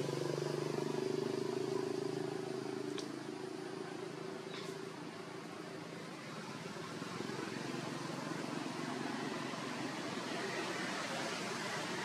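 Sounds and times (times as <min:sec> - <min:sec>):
steady outdoor rushing hiss: 0:00.0 - 0:12.0.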